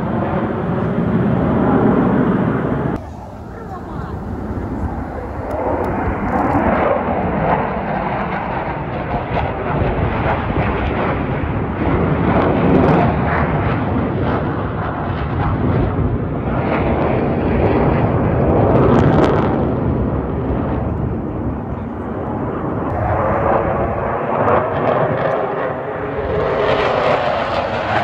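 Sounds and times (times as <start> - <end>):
fighter jets flying overhead: 0.0 - 28.0.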